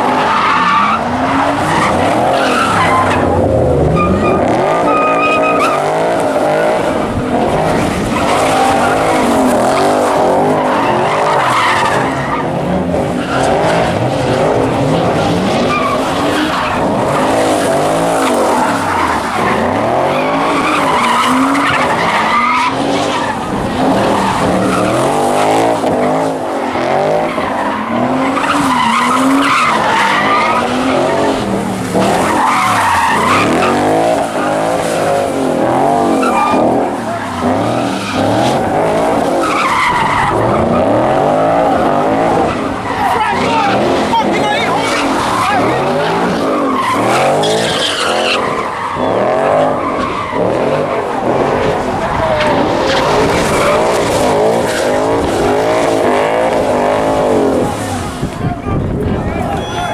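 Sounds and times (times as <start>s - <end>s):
car engines revving: 0.0s - 59.9s
tires skidding on pavement: 0.0s - 59.9s.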